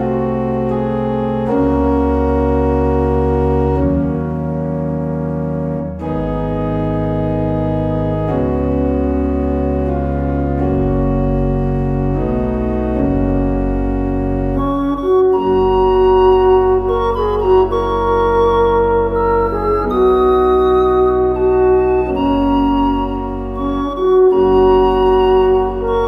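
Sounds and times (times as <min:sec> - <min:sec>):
organ music: 0:00.0 - 0:26.0.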